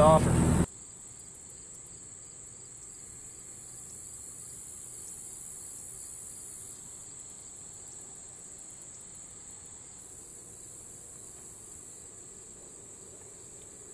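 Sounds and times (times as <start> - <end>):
crickets chirping: 0.6 - 13.9.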